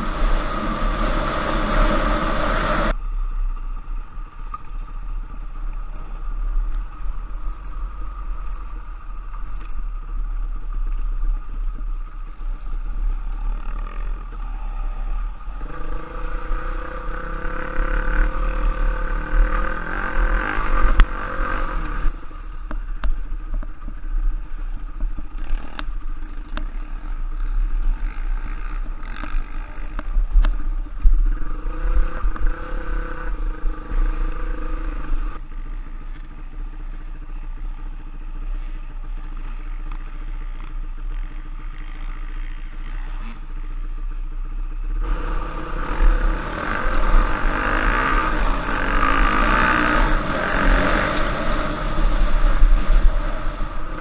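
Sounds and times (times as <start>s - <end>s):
motorcycle engine revving: 0.0s - 3.0s, 12.4s - 24.0s, 24.6s - 38.7s, 39.3s - 54.0s.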